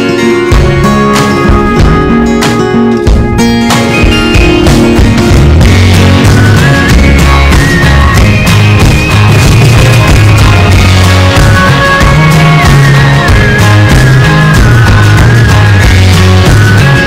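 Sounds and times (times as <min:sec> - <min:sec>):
loud rock music: 0:00.0 - 0:17.0.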